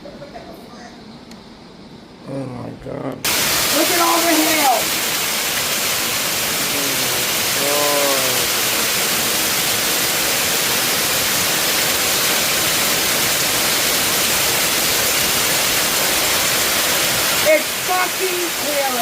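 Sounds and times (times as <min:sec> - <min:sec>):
hail falling hard: 0:03.3 - 0:19.0.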